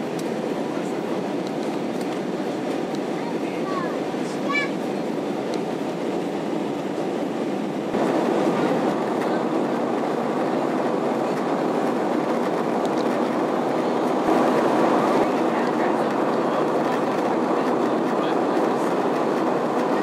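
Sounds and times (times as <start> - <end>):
airplane cabin engine rush: 0.0 - 20.0.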